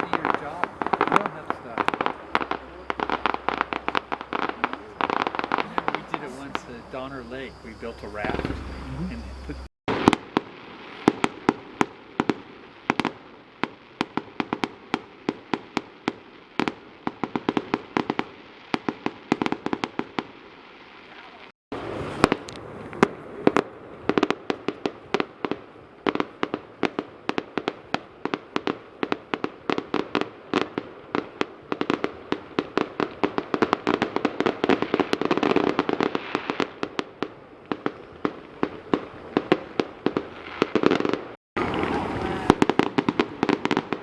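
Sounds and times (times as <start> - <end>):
fireworks bangs: 0.0 - 44.0
fireworks crackling: 0.0 - 44.0.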